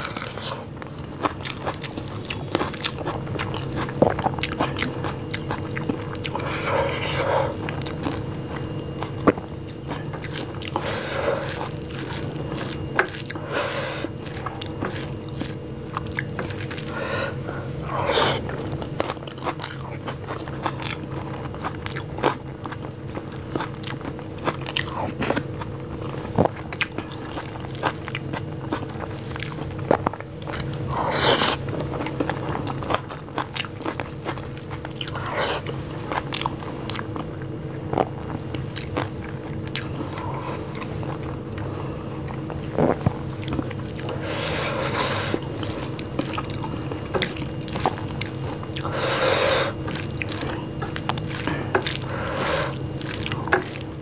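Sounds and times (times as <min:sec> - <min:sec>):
chewing and wet mouth sounds: 0:00.0 - 0:54.0
faint steady hum: 0:00.0 - 0:54.0.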